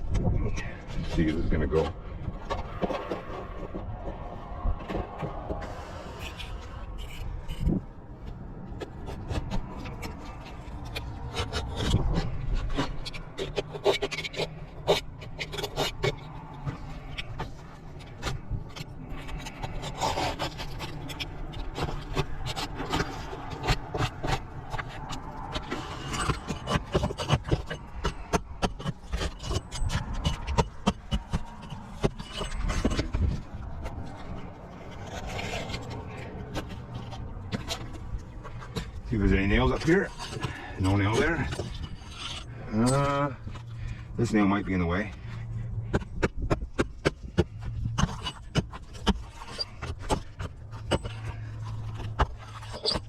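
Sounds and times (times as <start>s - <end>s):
shingles scraping and knocking: 1.0s - 53.0s.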